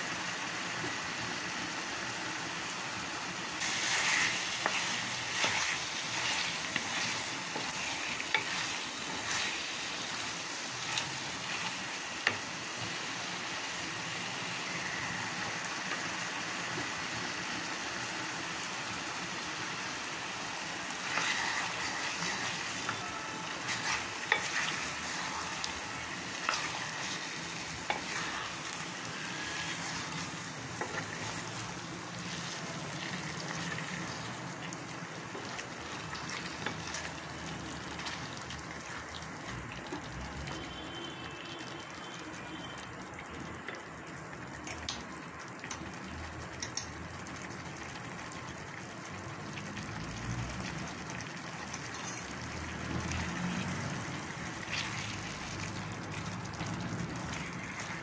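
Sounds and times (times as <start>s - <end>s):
curry sizzling in a metal pan: 0.0s - 43.7s, 44.6s - 58.0s.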